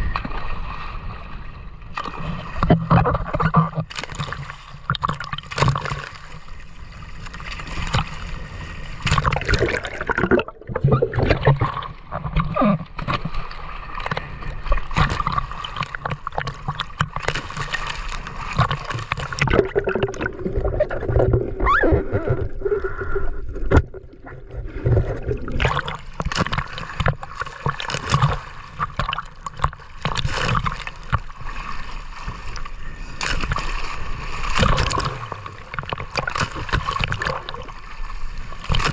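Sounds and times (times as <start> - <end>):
water splashing and gurgling: 0.0 - 38.9.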